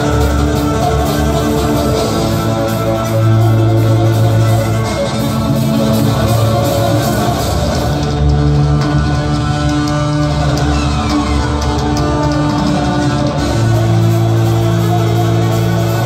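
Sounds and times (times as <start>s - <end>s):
rock music on amplified cellos: 0.0s - 16.0s.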